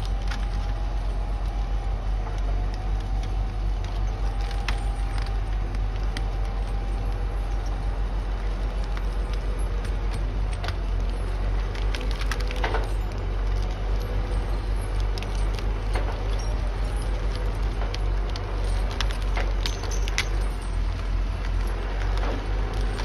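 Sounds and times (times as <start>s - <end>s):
diesel engine droning: 0.0s - 23.0s
wood cracking and snapping: 0.0s - 23.0s.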